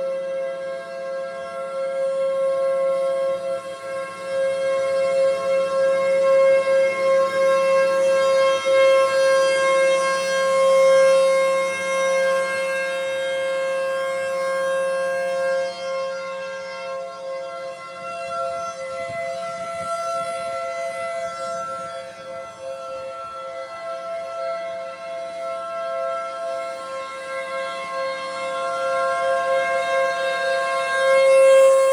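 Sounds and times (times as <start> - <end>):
tornado sirens steady pitch: 0.0 - 31.9.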